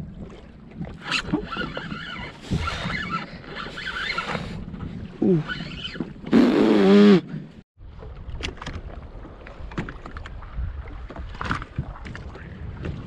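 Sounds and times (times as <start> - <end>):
waves lapping against boat hull: 0.0 - 13.0.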